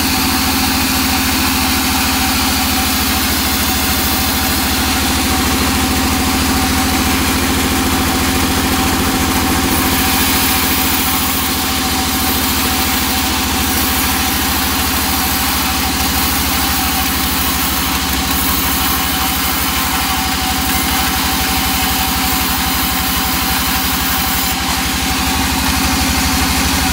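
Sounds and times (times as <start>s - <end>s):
saw blade cutting wood: 0.0s - 26.9s
sawmill machine hum: 0.0s - 26.9s.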